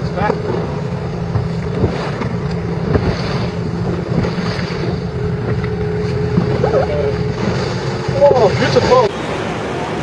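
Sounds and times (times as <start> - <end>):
boat low hum: 0.0 - 10.0
open sea wash: 0.0 - 10.0
wind buffeting microphone: 0.0 - 10.0.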